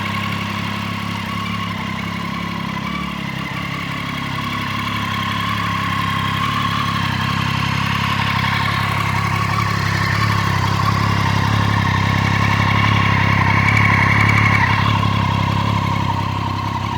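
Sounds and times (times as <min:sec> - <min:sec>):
motorcycle engine running at low revs: 0:00.0 - 0:16.9.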